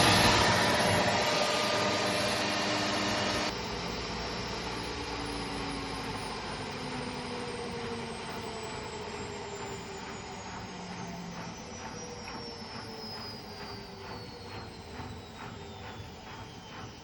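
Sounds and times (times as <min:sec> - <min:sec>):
washing machine drum spinning down: 0:00.0 - 0:17.0.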